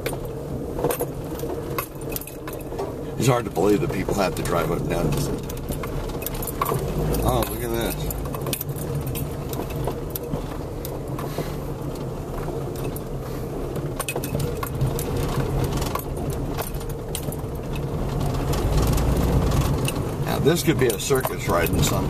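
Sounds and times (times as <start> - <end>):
car engine and road rumble: 0.0 - 22.0
rattles and clicks over bumps: 0.0 - 22.0.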